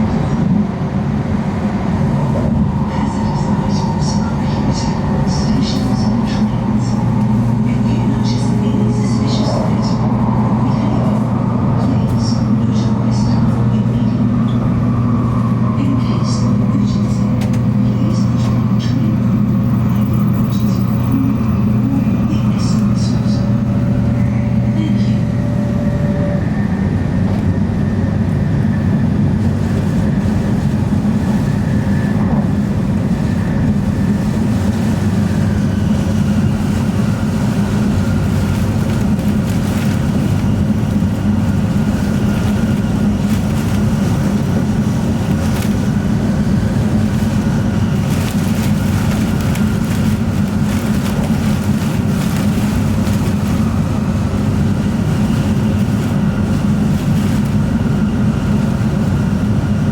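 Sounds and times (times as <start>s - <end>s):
train cabin drone: 0.0s - 59.9s.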